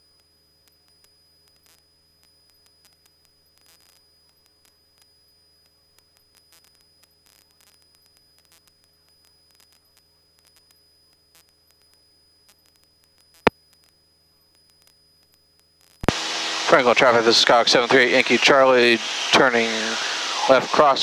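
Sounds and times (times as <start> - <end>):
soft static crackle: 0.0 - 21.0.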